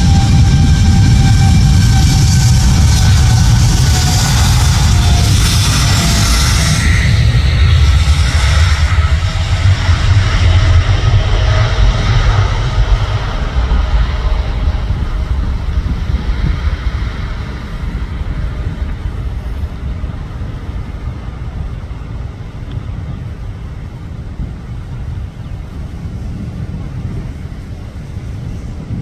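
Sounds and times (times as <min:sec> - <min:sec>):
jet engine roar at takeoff: 0:00.0 - 0:29.0.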